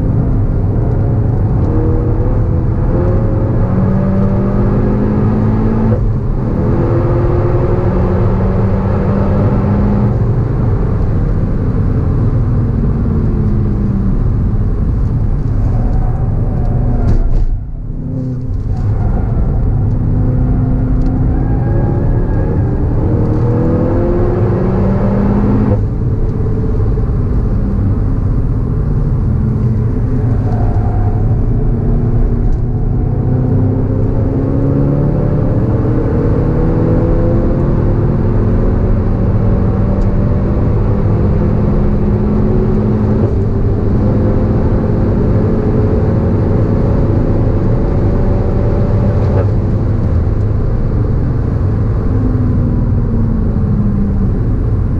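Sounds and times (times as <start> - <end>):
car engine accelerating through gears: 0.0 - 54.9.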